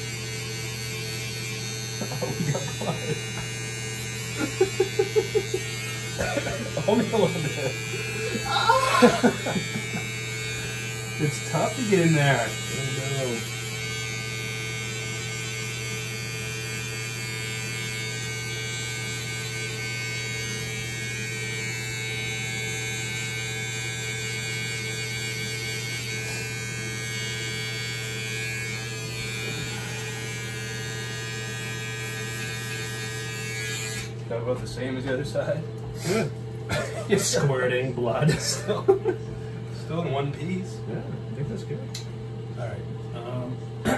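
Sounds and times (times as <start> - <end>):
electric hair clippers buzzing: 0.0 - 40.4, 43.2 - 43.9.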